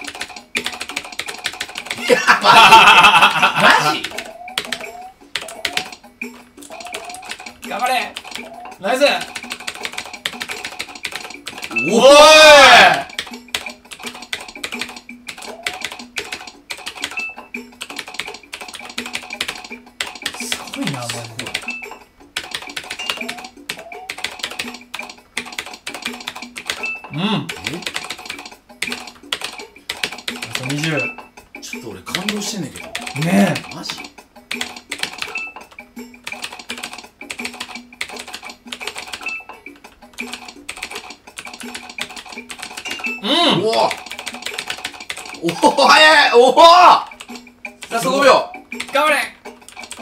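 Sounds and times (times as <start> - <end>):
background music: 0.0 - 50.0
rapid keyboard typing: 0.0 - 50.0.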